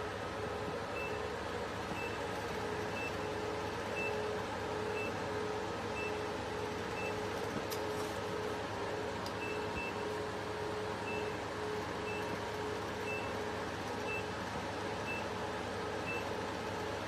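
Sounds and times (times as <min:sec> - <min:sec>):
machine running hum: 0:00.0 - 0:17.0.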